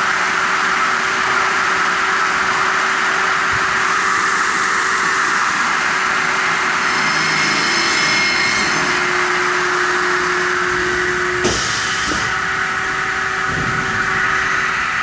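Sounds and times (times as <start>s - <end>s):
circular saw machine humming: 0.0s - 15.0s.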